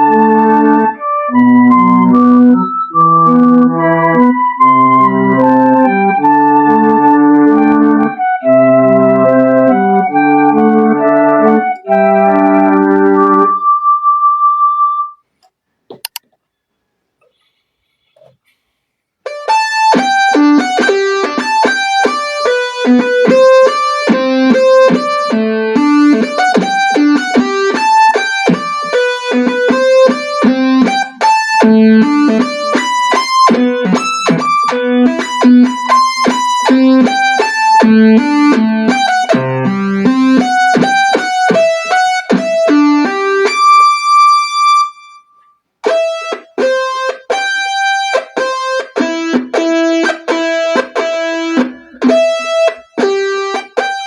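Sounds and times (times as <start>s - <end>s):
synth keyboard melody: 0.0s - 15.2s, 19.3s - 54.0s.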